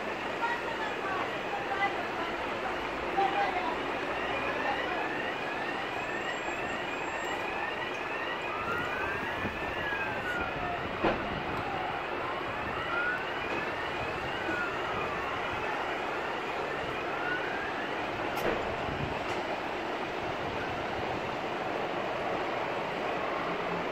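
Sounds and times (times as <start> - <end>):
emergency vehicle sirens: 0.0 - 23.9
traffic noise: 0.0 - 23.9.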